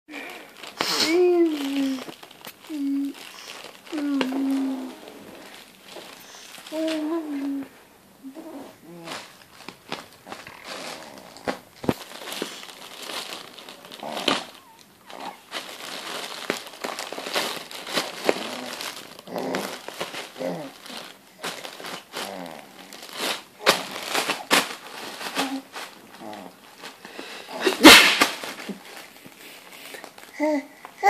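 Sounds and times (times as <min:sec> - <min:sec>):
crinkly material crumpling: 0:00.1 - 0:31.0.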